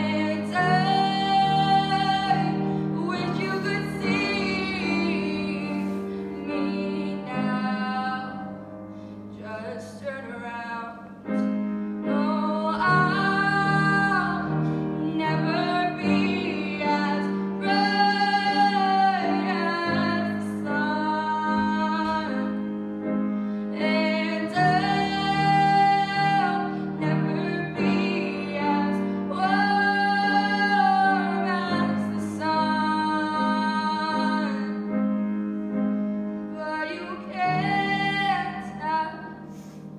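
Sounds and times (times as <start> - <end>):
woman singing: 0.0 - 11.4, 12.0 - 22.8, 23.7 - 35.0, 36.5 - 39.5
grand piano chords: 0.0 - 39.9.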